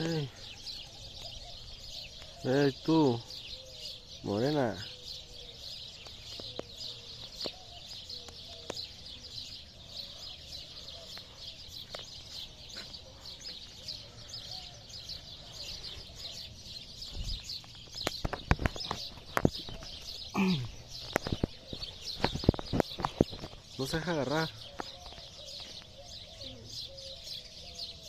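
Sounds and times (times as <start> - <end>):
small birds twittering: 0.0 - 28.0.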